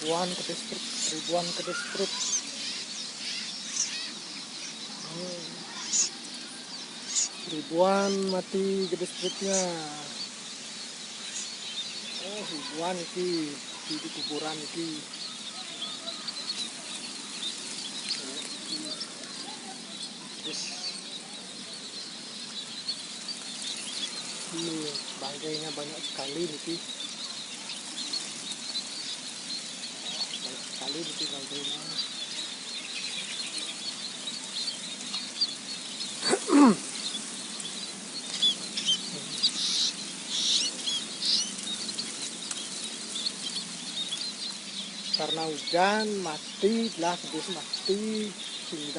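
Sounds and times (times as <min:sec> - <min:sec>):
loud falling bird call: 0:00.0 - 0:48.9
sparrows chirping: 0:00.0 - 0:48.9
wings fluttering: 0:00.0 - 0:48.9.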